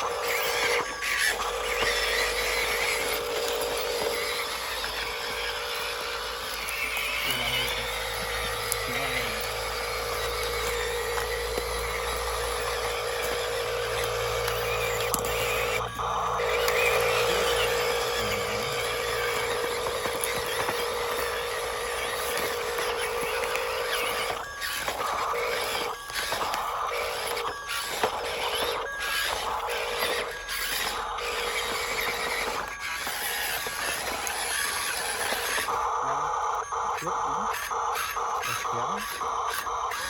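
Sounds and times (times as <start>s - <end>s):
toy truck electric motor whirring: 0.0s - 40.0s.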